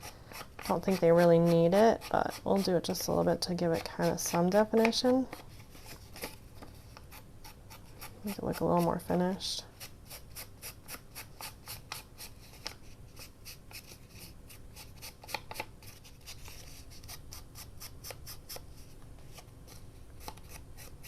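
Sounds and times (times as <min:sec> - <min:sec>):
scratchy strokes on paper: 0:00.0 - 0:21.0.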